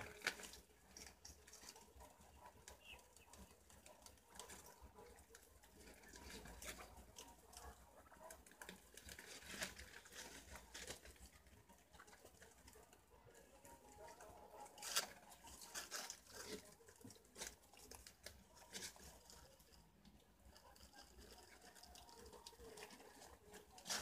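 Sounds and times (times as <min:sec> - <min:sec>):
animals rustling and crunching: 0:00.0 - 0:24.0.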